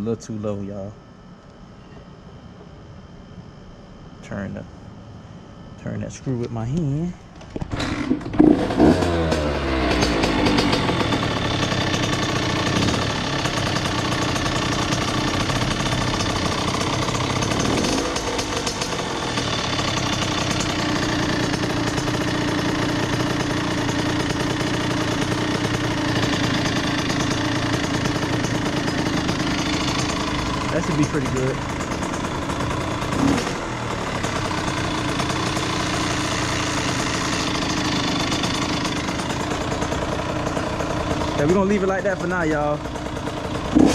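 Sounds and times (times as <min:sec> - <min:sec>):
two-stroke engine idling and revving: 0:07.7 - 0:43.9.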